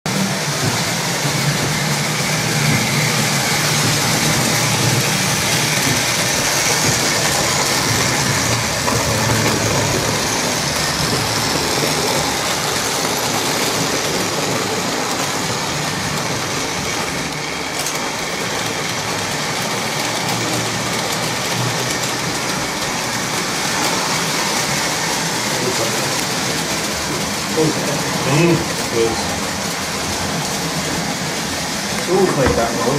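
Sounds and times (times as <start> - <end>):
model train motors whirring: 0.1 - 32.9.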